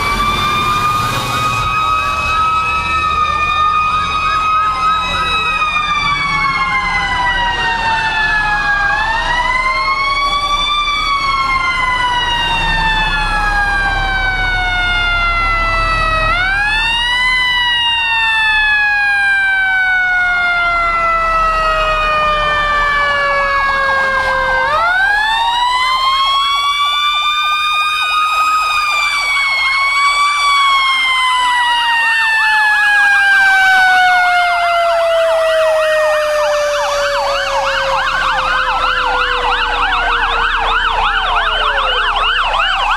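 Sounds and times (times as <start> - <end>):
fast warbling yelp siren: 0.0 - 42.9
fire truck sirens wailing: 0.0 - 42.9.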